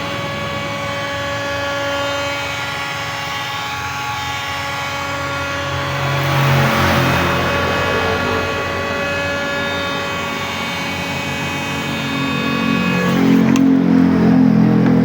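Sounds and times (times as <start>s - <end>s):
hot-air gun motor whine: 0.0s - 15.0s.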